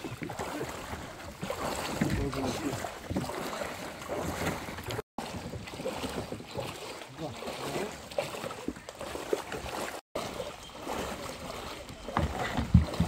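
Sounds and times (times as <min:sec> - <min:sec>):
water around kayak: 0:00.0 - 0:13.0.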